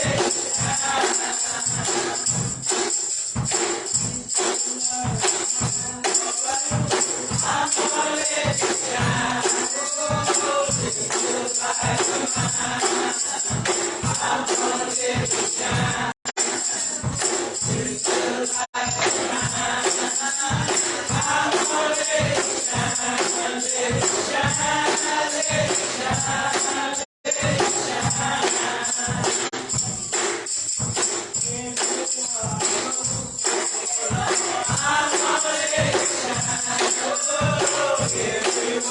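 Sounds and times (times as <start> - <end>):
gospel choir singing: 0.0 - 2.9, 4.4 - 30.5, 31.2 - 38.9
tambourine beat: 0.0 - 38.9.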